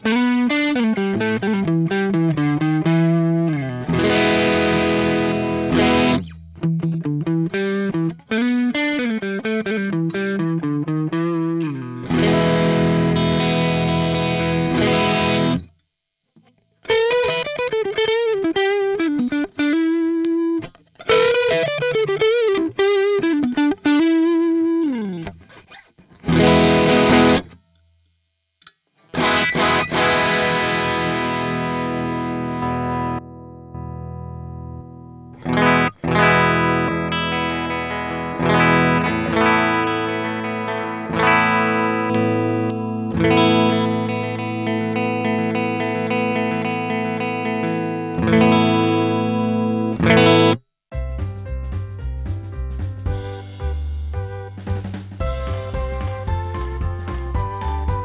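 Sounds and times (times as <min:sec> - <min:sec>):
distorted electric guitar: 0:00.0 - 0:27.8, 0:28.6 - 0:58.0.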